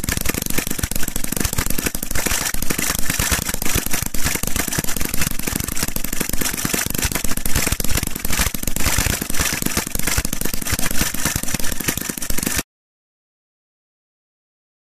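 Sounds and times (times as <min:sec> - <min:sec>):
small model engine running: 0:00.0 - 0:12.6.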